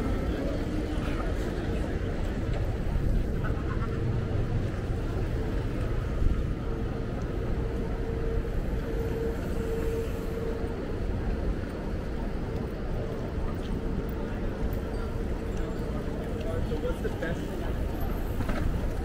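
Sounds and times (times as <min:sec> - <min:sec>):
street traffic: 0:00.0 - 0:19.0
wind rumbling on microphone: 0:00.0 - 0:19.0.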